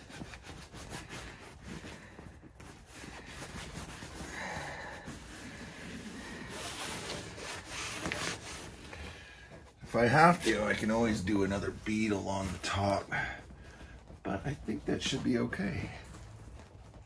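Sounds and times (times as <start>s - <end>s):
hands rubbing on tent fabric: 0.0s - 17.0s.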